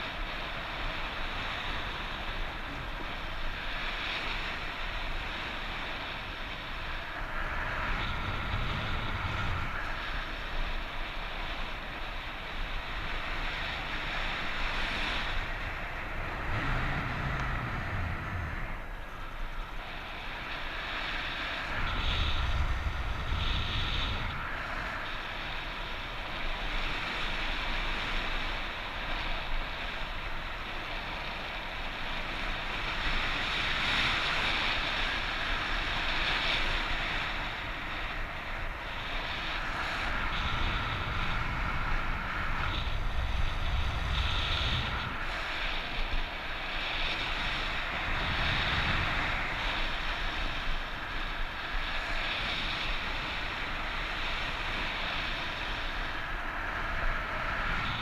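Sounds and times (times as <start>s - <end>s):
low wind buffeting: 0.0s - 58.0s
strong wind on microphone: 0.0s - 58.0s.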